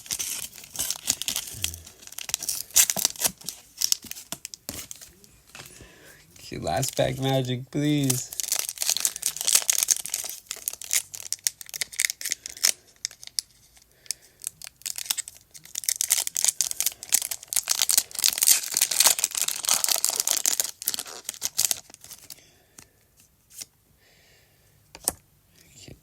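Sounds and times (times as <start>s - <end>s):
foil wrapper tearing and crinkling: 0.0s - 5.7s, 6.5s - 13.8s, 14.4s - 22.4s.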